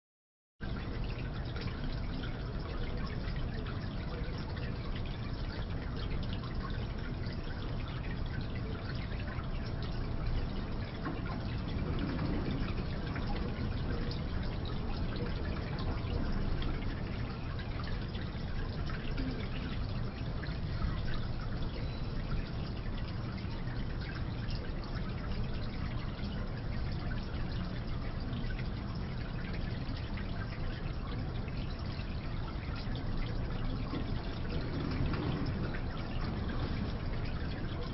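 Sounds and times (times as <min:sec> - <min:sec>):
fountain water trickling: 0:00.6 - 0:37.9.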